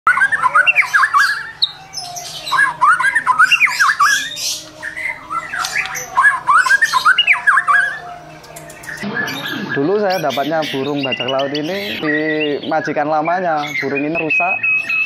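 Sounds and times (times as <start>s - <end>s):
bird singing whistled notes: 0.1s - 15.0s.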